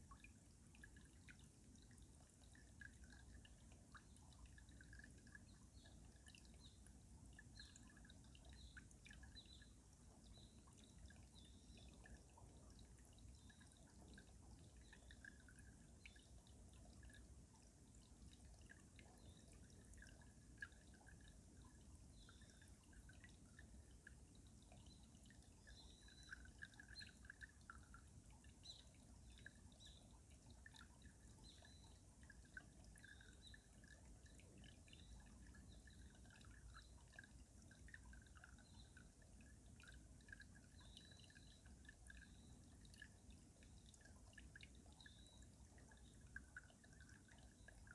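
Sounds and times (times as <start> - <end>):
stream dripping and gurgling under ice: 0.0 - 47.9.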